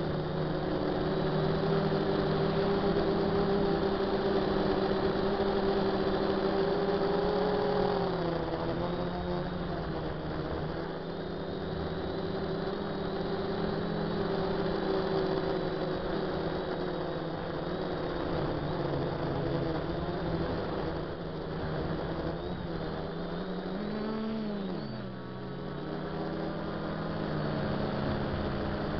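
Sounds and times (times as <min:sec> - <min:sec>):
drone motors and propellers humming: 0:00.0 - 0:28.9.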